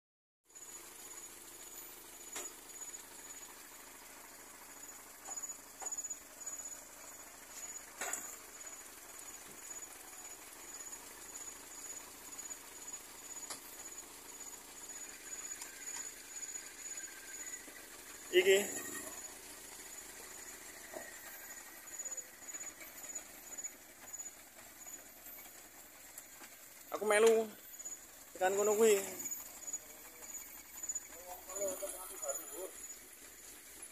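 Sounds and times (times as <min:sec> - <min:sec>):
faint pickup truck engine: 0:00.5 - 0:33.9
high-pitched insect chirping: 0:00.5 - 0:33.9.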